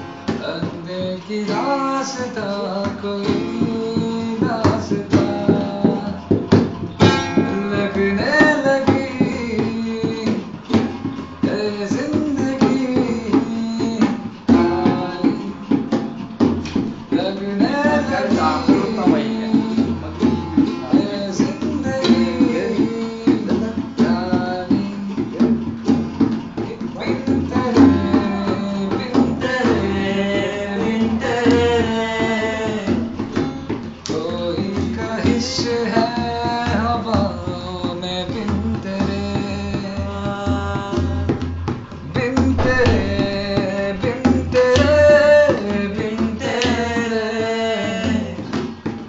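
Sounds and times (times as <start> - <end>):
tabla drumming: 0.0 - 49.0.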